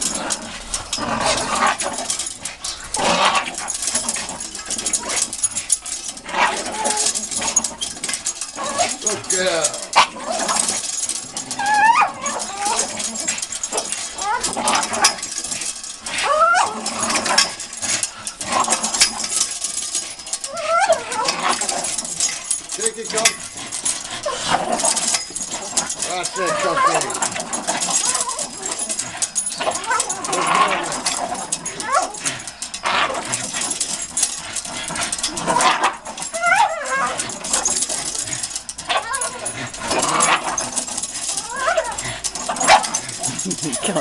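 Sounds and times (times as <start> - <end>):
chain links clattering: 0.0 - 44.0
dog whining: 0.0 - 44.0
scuffling and rattling clicks: 0.0 - 44.0.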